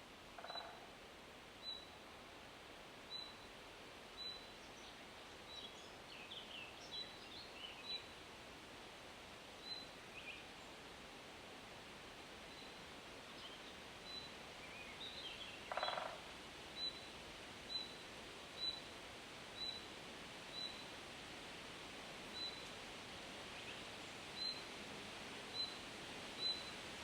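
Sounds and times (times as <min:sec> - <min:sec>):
wind in leaves: 0:00.0 - 0:27.0.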